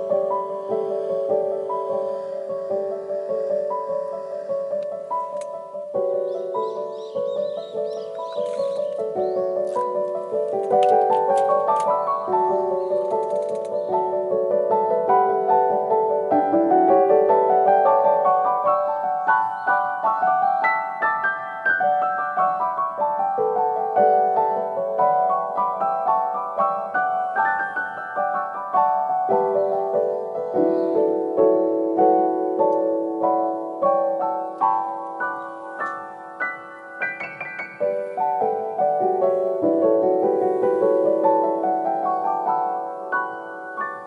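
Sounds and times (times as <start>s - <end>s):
keyboard playing a melody: 0.0s - 44.0s.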